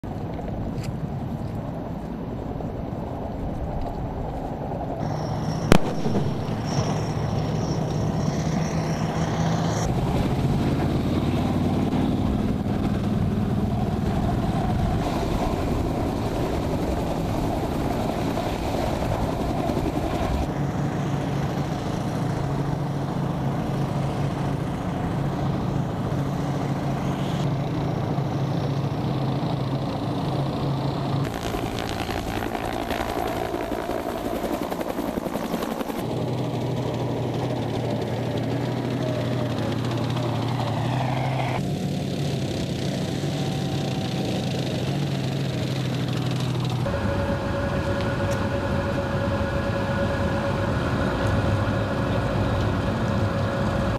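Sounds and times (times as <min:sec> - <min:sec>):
armoured vehicle engines: 0:00.0 - 0:53.9
helicopters hovering: 0:00.0 - 0:53.9.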